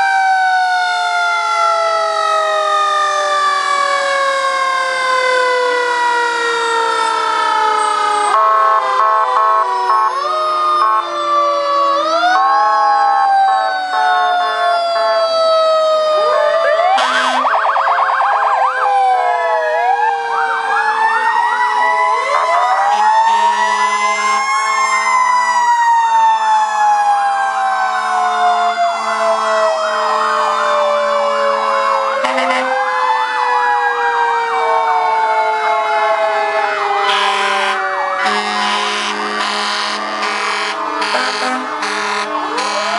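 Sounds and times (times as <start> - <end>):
fire truck sirens wailing: 0.0 - 42.9.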